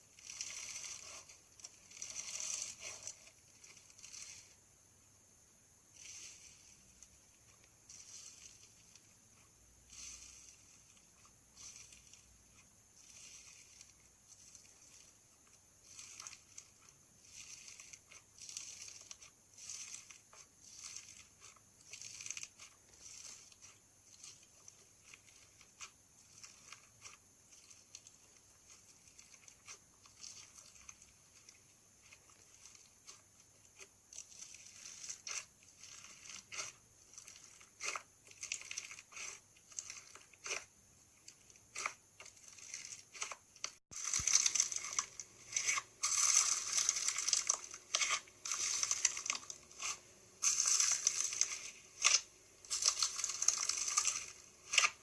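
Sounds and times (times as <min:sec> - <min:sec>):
crunchy slime crackling: 0:00.0 - 0:04.8, 0:05.8 - 0:55.0.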